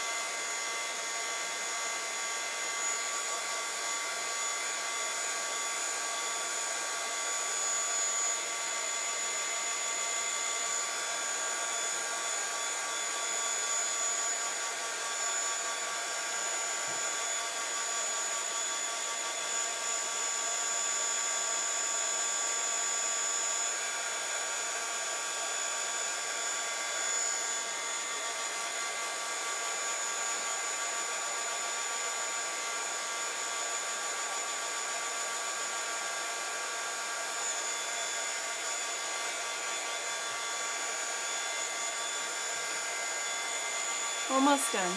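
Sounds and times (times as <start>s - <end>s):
heat gun fan whine: 0.0s - 44.9s.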